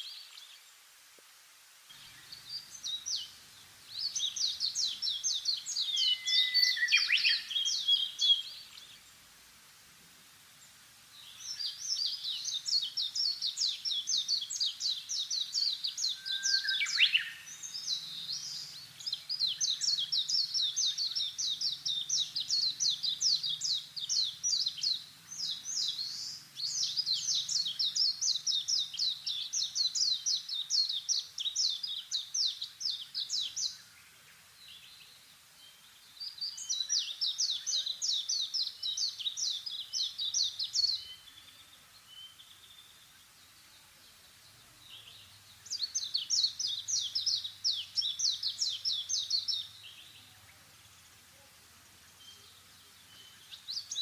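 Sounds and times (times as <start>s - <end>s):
songbird singing fast trills: 1.9s - 9.3s, 10.5s - 54.0s.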